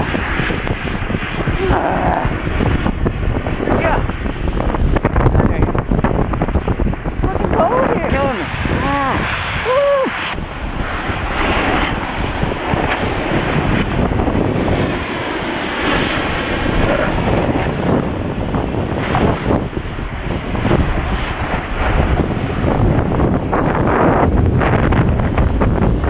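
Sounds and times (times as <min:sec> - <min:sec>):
snowboard sliding over snow: 0:00.0 - 0:26.0
wind buffeting microphone: 0:00.0 - 0:26.0.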